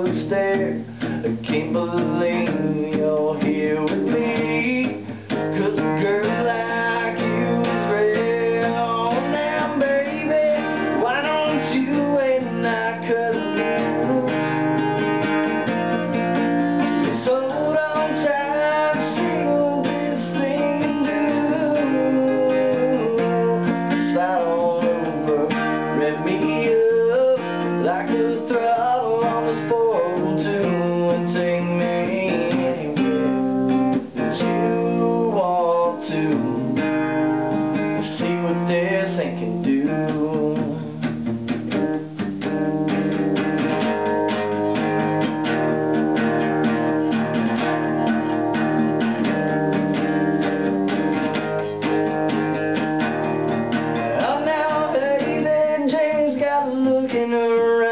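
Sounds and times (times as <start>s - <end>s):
acoustic guitar: 0.0s - 57.9s
man singing country song: 0.0s - 57.9s.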